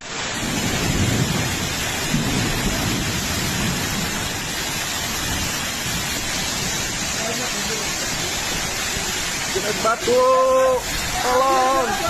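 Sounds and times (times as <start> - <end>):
heavy rain and hail: 0.0 - 12.0.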